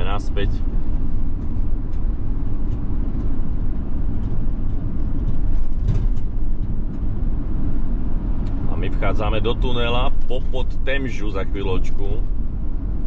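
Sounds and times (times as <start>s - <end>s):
engine and road noise rumble: 0.0s - 13.0s.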